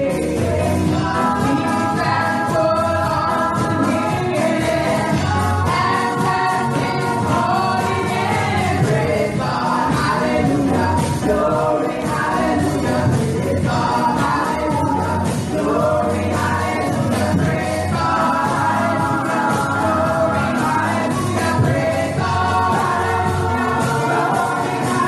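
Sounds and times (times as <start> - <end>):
backing music: 0.0 - 25.0
women singing gospel song: 0.0 - 25.0.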